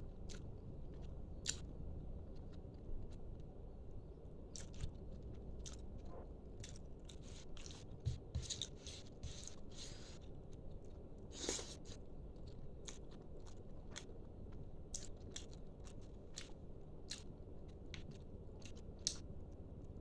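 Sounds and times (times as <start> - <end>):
person chewing food: 0.2 - 3.5, 4.5 - 19.3.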